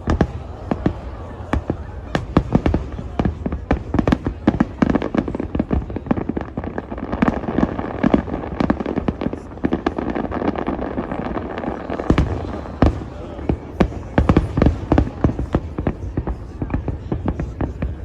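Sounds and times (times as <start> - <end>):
fireworks booming: 0.0 - 18.0.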